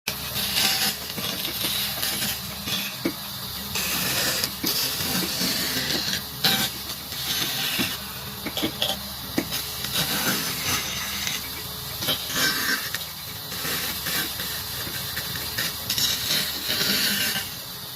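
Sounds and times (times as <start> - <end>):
tool scraping wood: 0.1 - 17.6
steady low hum: 0.1 - 17.9.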